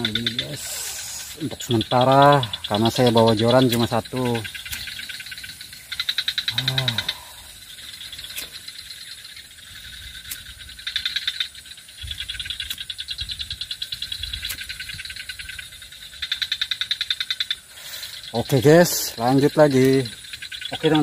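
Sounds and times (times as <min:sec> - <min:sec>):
animals calling in pulsed trills: 0:00.0 - 0:21.0
handling ticks and rumbles: 0:00.0 - 0:21.0.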